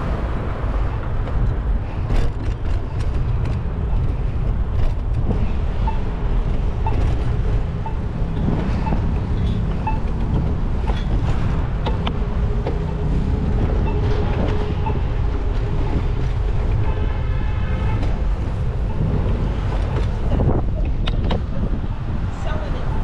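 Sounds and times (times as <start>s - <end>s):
city traffic: 0.0s - 23.0s
wind on microphone: 0.0s - 23.0s.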